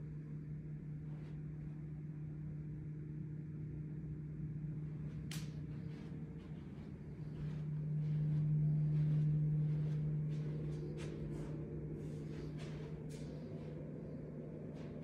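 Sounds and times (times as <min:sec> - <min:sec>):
faint low rumble: 0:00.0 - 0:15.0
steady low hum: 0:00.0 - 0:15.0.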